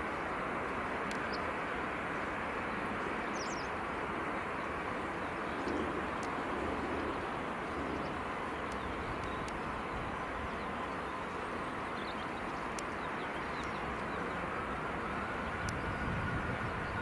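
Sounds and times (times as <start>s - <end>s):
faint engine whine: 0.0s - 17.0s
jet engines rumbling: 0.0s - 17.0s.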